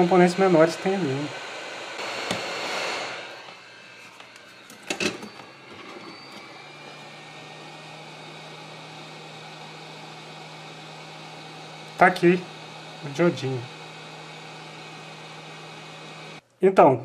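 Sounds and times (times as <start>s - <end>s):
hot-air blower hissing: 0.0s - 16.4s.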